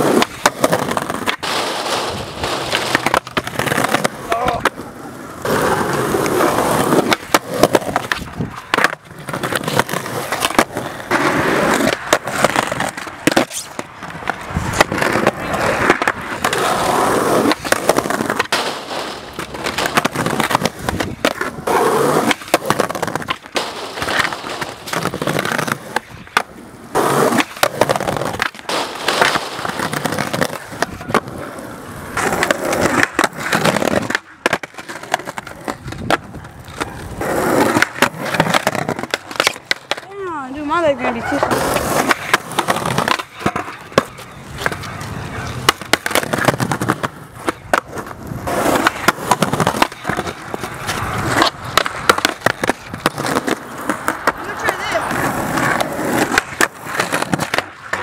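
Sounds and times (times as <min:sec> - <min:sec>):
skateboard pops and landing slaps: 0:00.0 - 0:04.8, 0:05.4 - 0:16.7, 0:17.4 - 0:31.4, 0:32.1 - 0:40.1, 0:41.4 - 0:54.8, 0:55.6 - 0:58.0
skateboards rolling on asphalt: 0:00.0 - 0:58.0.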